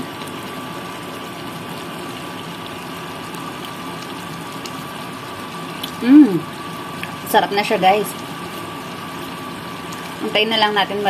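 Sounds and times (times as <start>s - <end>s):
stew bubbling in a pan: 0.0s - 11.0s.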